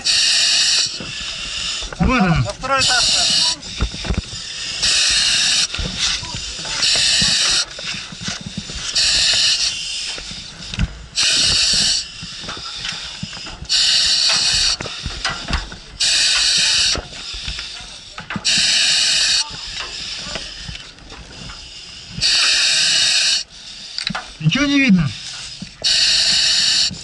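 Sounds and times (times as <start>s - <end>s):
breathing through air mask: 0.0s - 27.0s.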